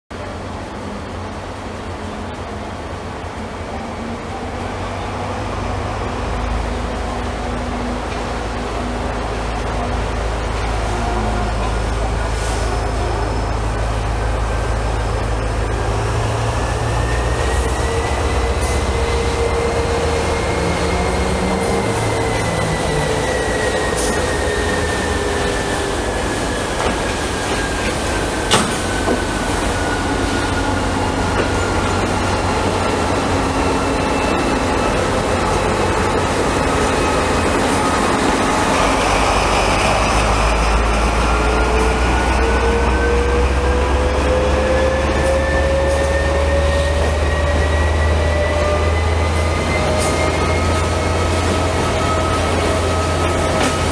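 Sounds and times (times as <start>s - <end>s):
train rumbling: 0.1s - 53.9s.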